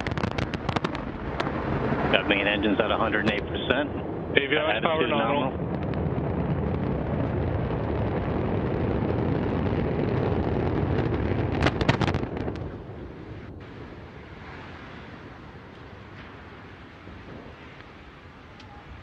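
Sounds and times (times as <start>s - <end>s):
explosion cracks and pops: 0.0s - 19.0s
rocket engines roaring: 0.0s - 19.0s.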